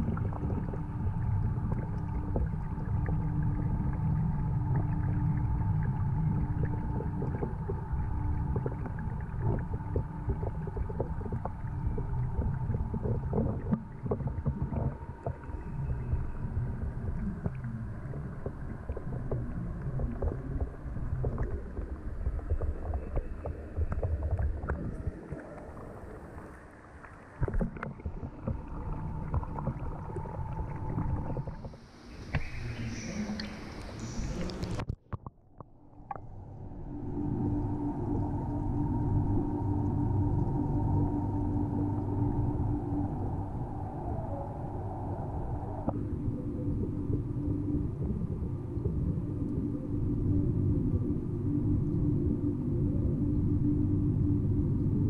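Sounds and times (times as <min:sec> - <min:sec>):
faint steady hum: 0:00.0 - 0:55.0
muffled underwater rumble: 0:00.0 - 0:55.0.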